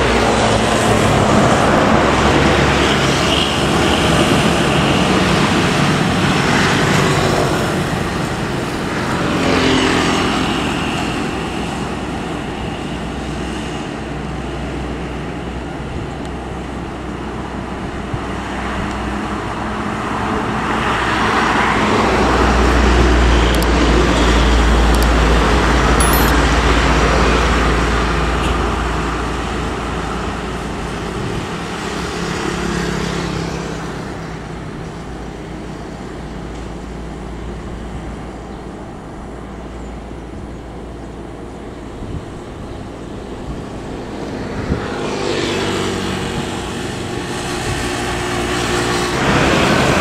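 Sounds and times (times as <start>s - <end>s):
road traffic: 0.0s - 50.0s.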